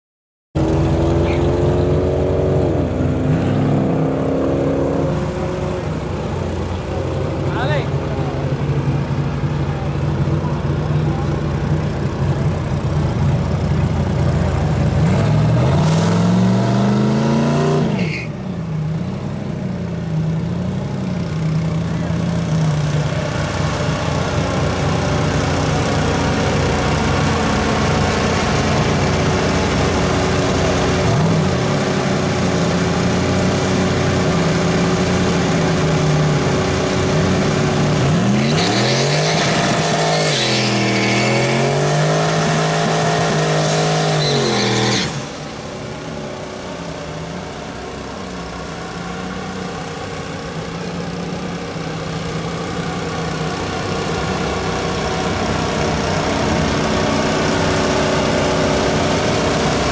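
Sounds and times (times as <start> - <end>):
car engine idling and revving: 0.6 - 59.9.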